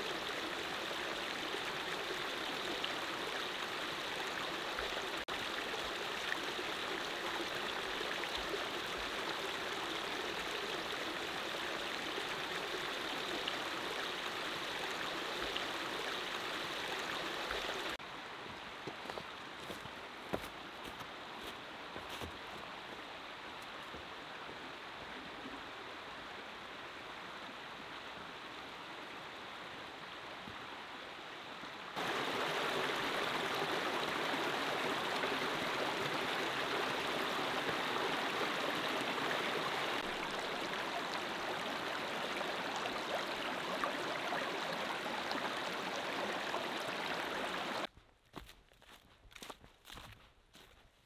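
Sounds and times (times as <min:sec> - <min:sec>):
stream flowing over stones: 0:00.0 - 0:47.9.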